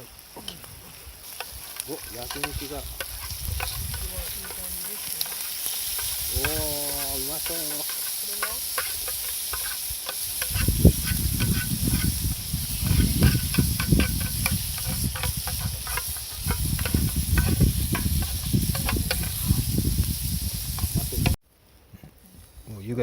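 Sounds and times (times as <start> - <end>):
meat sizzling on an iron plate: 0.0 - 21.4.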